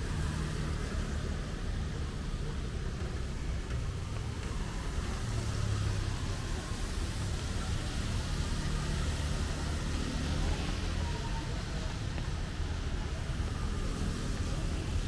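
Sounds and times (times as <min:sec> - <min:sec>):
rain hiss on wet street: 0:00.0 - 0:15.0
traffic rumble: 0:00.0 - 0:15.0.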